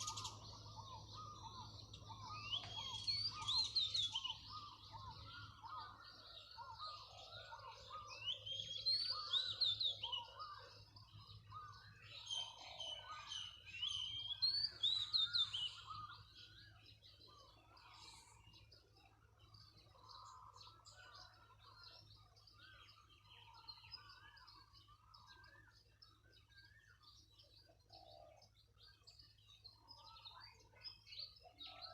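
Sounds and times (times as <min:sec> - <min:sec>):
birds chirping and calling: 0:00.0 - 0:31.9.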